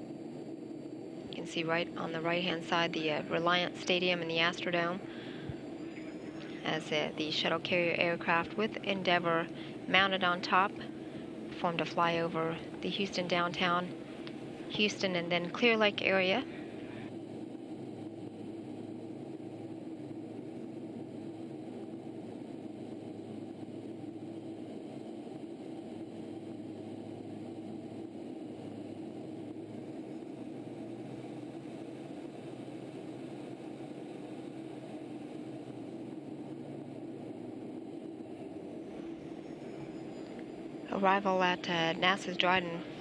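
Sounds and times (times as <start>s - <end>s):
jet engine drone: 0.0s - 43.0s
rushing airflow in cockpit: 4.8s - 14.9s, 15.5s - 41.0s.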